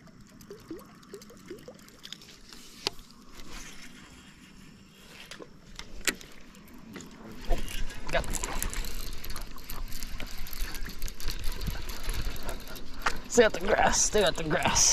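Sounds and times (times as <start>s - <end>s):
water trickling and lapping: 0.0s - 14.9s.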